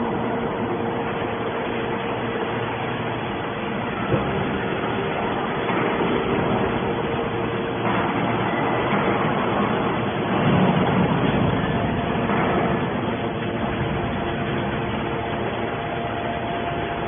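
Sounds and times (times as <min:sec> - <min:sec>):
scrap metal baler droning: 0:00.0 - 0:17.0.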